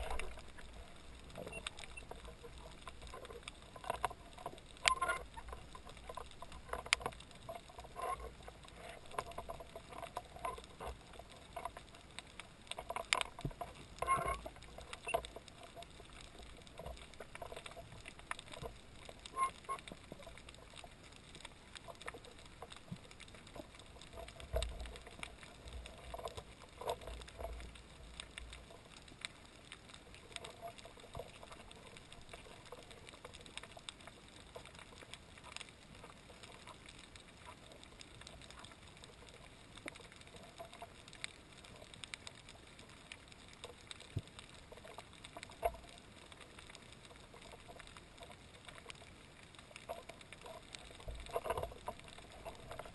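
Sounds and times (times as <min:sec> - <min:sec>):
low steady water noise: 0:00.0 - 0:52.9
muffled underwater clicks and knocks: 0:00.0 - 0:52.9
rumble of water movement: 0:00.0 - 0:52.9.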